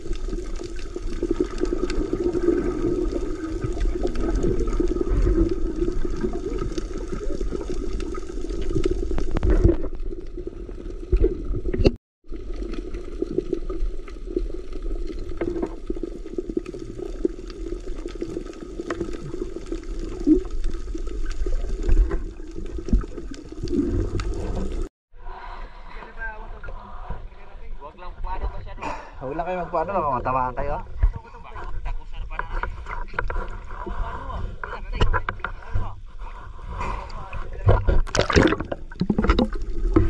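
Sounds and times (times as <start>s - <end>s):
muffled underwater rush: 0.0s - 40.0s.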